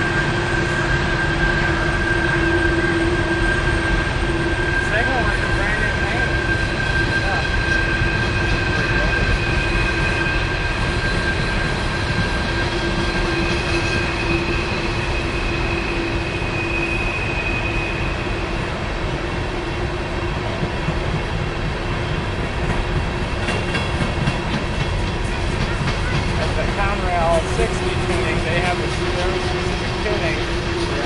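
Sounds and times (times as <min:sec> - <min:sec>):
wheel flanges squealing: 0:00.0 - 0:20.8, 0:22.1 - 0:31.0
train wheels rumbling on rails: 0:00.0 - 0:31.0.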